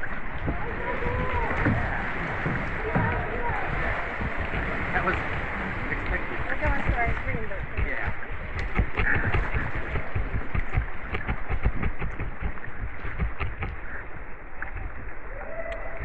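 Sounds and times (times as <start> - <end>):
low thumps: 0.0 - 15.2
water sloshing around kayak: 0.0 - 16.0.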